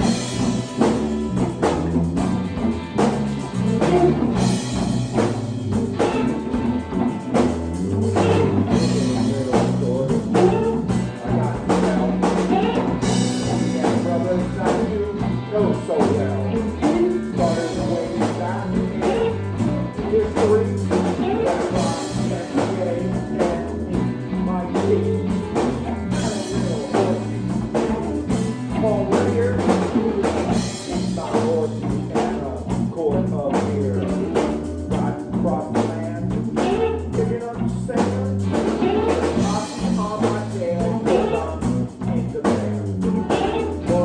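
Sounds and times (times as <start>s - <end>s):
drum kit steady beat: 0.0s - 44.0s
walking bass line: 0.0s - 44.0s
lead voice or instrument: 3.3s - 44.0s.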